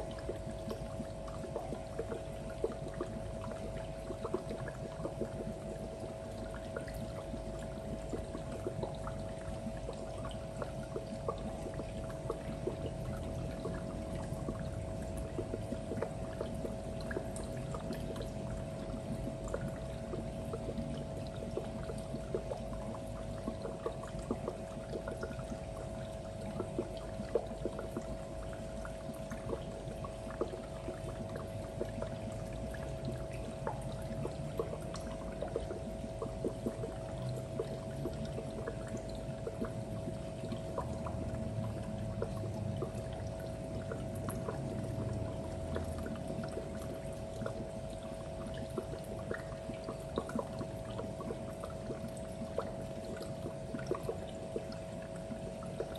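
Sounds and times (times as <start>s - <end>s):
filter hum: 0.0s - 55.9s
water trickling and splashing: 0.0s - 55.9s.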